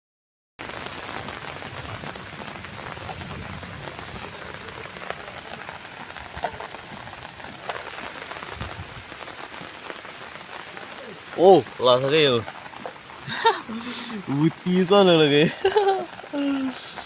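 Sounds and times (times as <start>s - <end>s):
hail falling: 0.6s - 17.0s.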